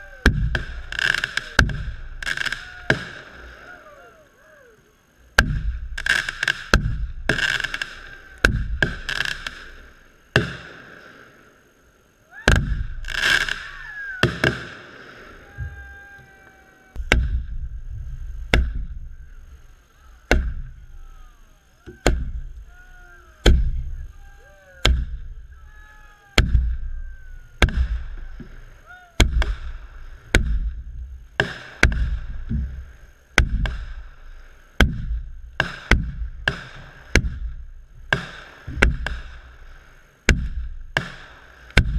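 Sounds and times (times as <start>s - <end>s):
fireworks booming: 0.0s - 4.0s, 5.3s - 11.6s, 12.4s - 41.9s
fireworks hissing and crackling: 0.0s - 41.9s
fireworks whistling: 0.0s - 41.9s.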